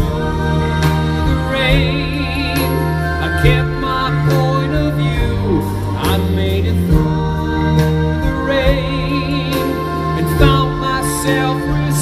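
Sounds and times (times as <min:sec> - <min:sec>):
live pop band: 0:00.0 - 0:12.0
man singing with vibrato: 0:00.0 - 0:12.0.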